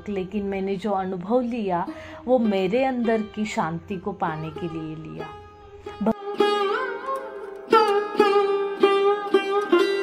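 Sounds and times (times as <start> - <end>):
plucked string instrument: 1.2 - 10.0.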